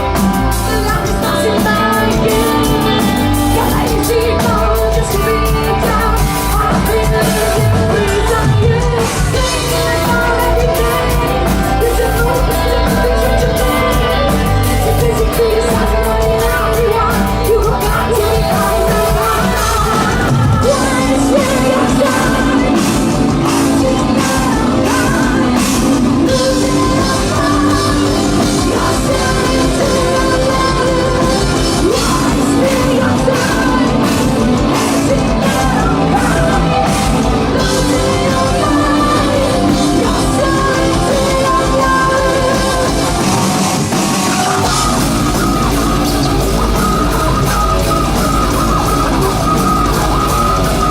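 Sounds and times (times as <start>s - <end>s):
distorted guitars: 0.0s - 50.9s
metal band playing live: 0.0s - 50.9s
sung and screamed vocals: 0.0s - 50.9s.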